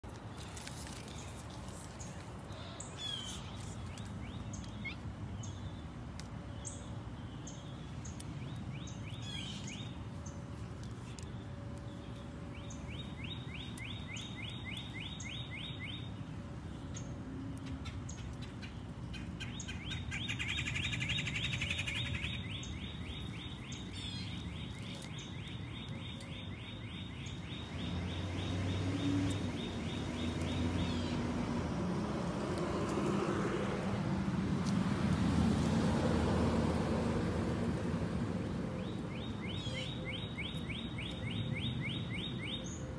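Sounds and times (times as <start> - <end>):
birds chirping and singing: 1.0 - 31.3, 38.8 - 42.9.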